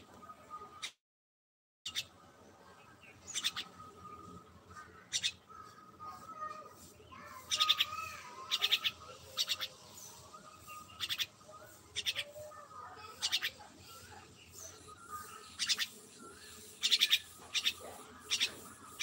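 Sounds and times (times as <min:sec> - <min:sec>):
myna chirping: 0:01.9 - 0:19.0.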